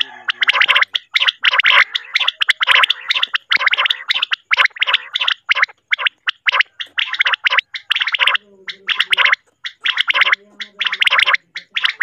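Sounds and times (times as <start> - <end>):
quail calling with rasping notes: 0.0 - 12.0.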